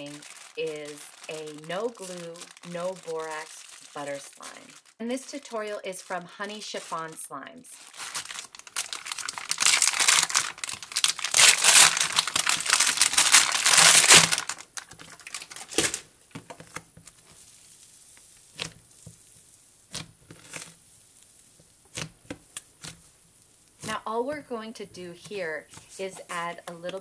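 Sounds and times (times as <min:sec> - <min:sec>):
foil pouch crinkling: 0:00.0 - 0:07.2, 0:07.8 - 0:24.1.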